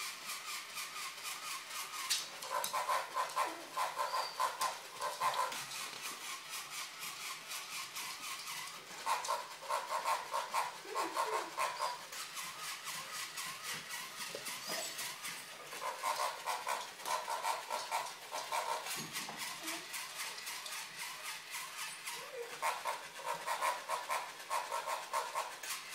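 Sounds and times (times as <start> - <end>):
toy motor and gears clicking: 0.0 - 25.9.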